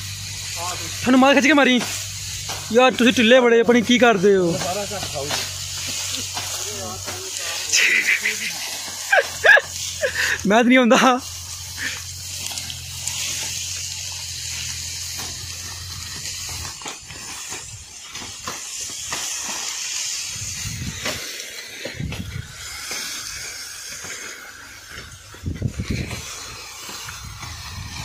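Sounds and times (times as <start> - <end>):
dry cane leaves rustling: 0.0 - 28.0
blade chopping stalks: 1.5 - 10.4, 11.7 - 28.0.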